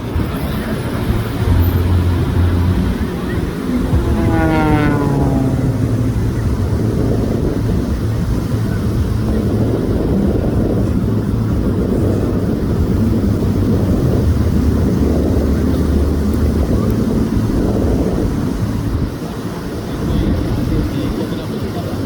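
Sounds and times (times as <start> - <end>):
plane engine and propeller droning: 0.0 - 22.0.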